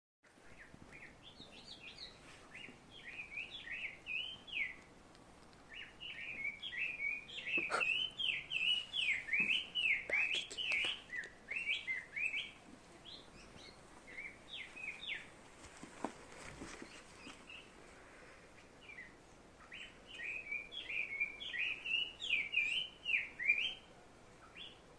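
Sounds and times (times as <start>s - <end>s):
songbird singing chattering notes: 0.4s - 15.4s, 18.8s - 24.8s.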